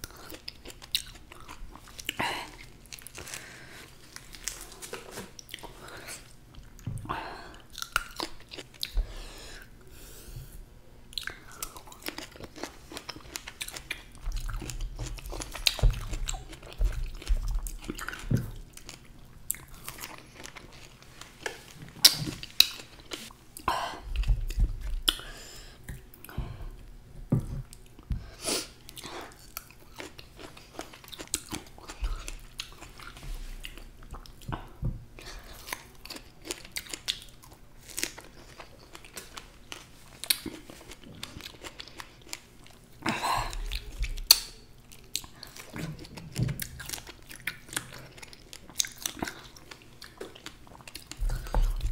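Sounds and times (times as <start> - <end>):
chewing and biting fruit: 0.0 - 9.8, 11.1 - 26.5, 28.7 - 51.9.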